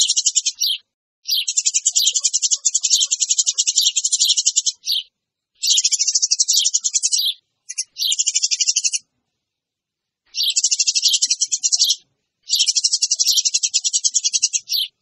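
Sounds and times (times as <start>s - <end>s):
sparrows chattering: 0.0s - 9.1s, 10.2s - 15.0s.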